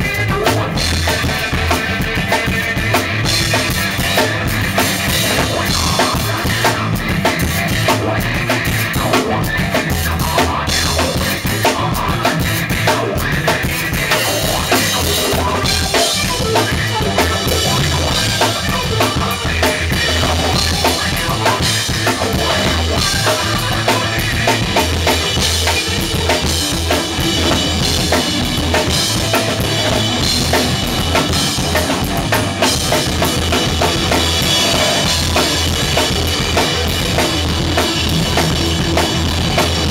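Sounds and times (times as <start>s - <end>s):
drum kit playing: 0.0s - 39.9s
electric guitar: 0.0s - 39.9s.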